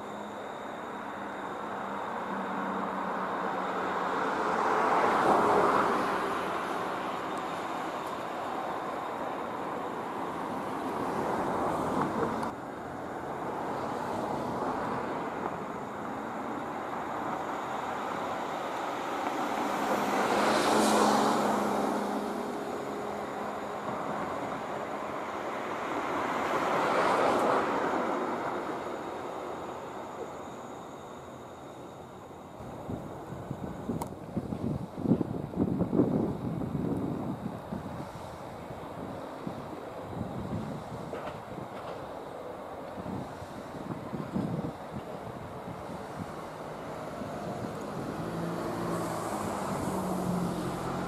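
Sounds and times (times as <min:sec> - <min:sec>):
vehicles passing by: 0:00.0 - 0:51.0.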